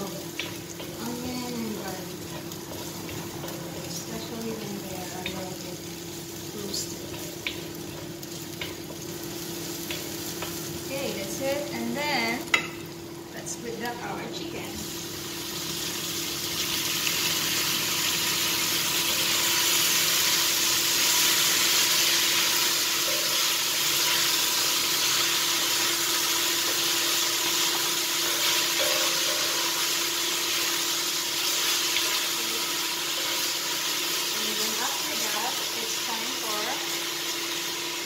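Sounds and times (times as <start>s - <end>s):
chicken sizzling in hot oil: 0.0s - 38.0s.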